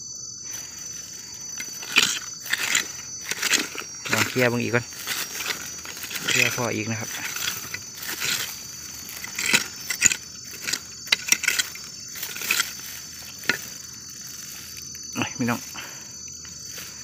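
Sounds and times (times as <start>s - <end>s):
hand tool raking through soil: 0.5s - 17.0s.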